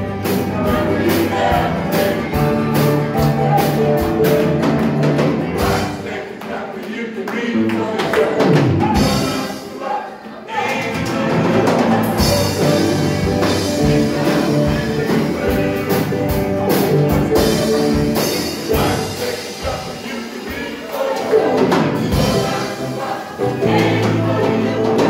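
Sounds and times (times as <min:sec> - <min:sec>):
voices singing: 0:00.0 - 0:25.0
worship band playing: 0:00.0 - 0:25.0.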